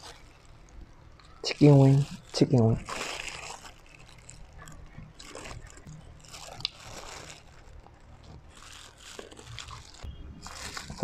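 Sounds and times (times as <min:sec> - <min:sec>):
biting and chewing: 0:00.1 - 0:11.0.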